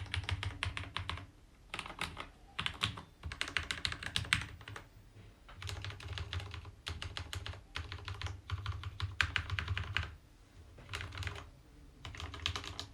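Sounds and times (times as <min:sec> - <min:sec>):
mechanical keyboard typing: 0:00.0 - 0:04.9, 0:05.5 - 0:10.2, 0:10.8 - 0:12.9.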